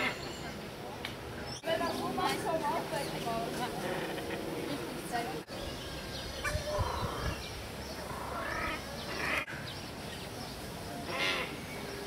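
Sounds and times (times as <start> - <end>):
birds calling and chirping: 0.0 - 12.0.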